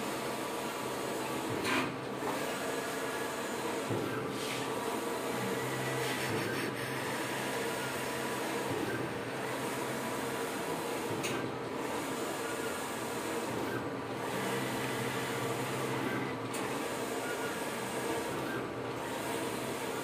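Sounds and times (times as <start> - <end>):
banner printer mechanical whir: 0.0 - 20.0.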